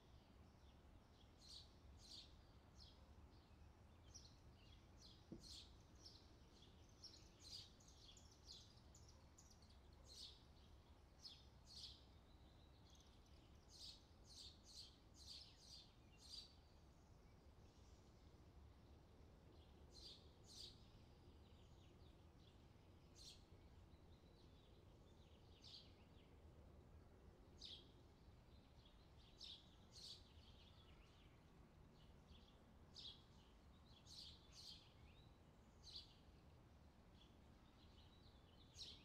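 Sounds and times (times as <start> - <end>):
small birds chirping: 0.0 - 26.8, 27.5 - 39.0
faint low background hiss: 0.0 - 39.0.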